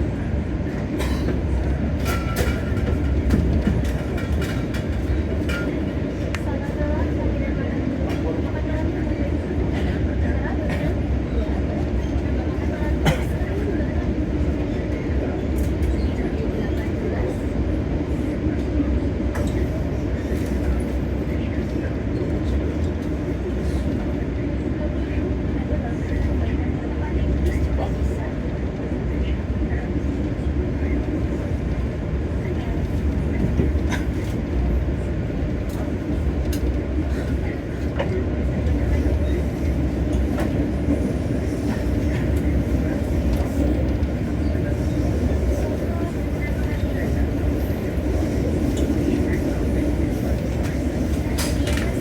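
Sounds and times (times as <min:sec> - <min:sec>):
train rumble inside coach: 0:00.0 - 0:52.0.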